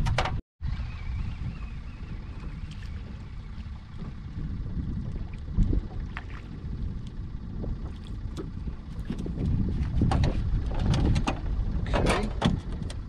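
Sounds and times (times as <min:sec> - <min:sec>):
low rumble: 0:00.0 - 0:13.0
wind buffeting microphone: 0:00.0 - 0:13.0
water lapping at boat hull: 0:02.2 - 0:13.0.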